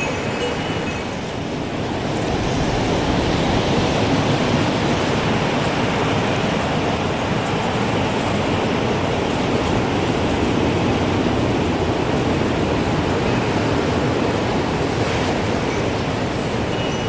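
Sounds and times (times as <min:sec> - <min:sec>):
wind blowing steadily: 0:00.0 - 0:17.0.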